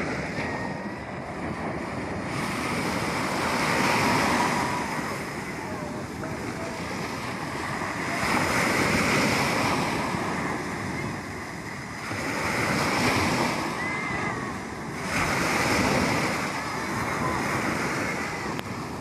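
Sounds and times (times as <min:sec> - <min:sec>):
sea waves breaking on shore: 0:00.0 - 0:19.0.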